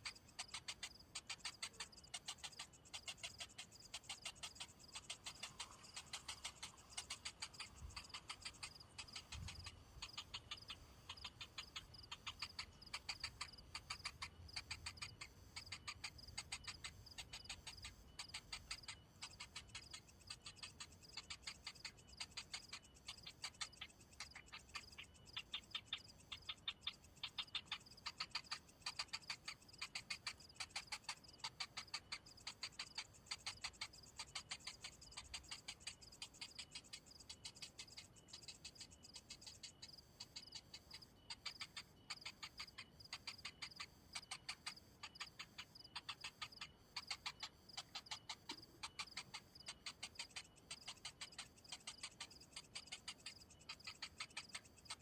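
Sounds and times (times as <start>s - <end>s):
rapid ticking calls: 0.0s - 55.0s.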